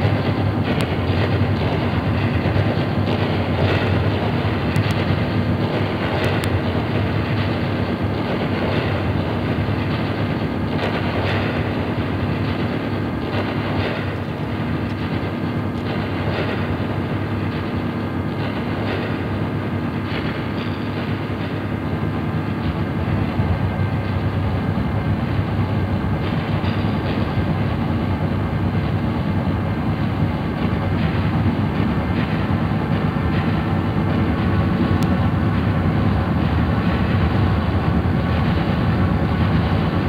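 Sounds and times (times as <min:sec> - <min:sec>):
drone noise music: 0:00.0 - 0:40.0.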